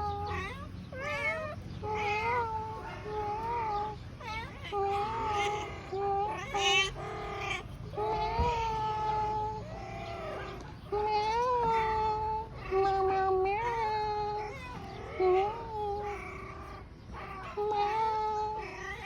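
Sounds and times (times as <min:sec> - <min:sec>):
cat meowing in wailing calls: 0:00.0 - 0:19.0.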